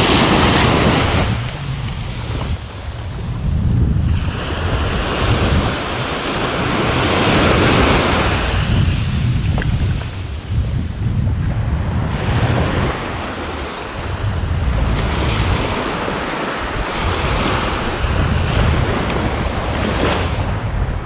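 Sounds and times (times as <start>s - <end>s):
surf waves breaking on sand: 0.0s - 21.0s
wind on microphone: 0.0s - 21.0s.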